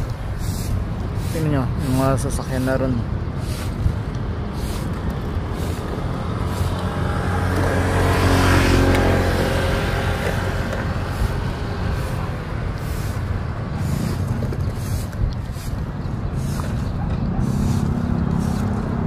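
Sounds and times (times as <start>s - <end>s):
traffic rumble: 0.0s - 19.0s
vehicle passing close by: 3.4s - 19.0s.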